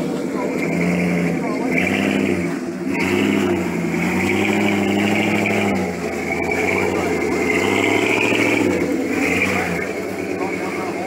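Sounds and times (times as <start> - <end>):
car engine revving under load: 0.0 - 11.0.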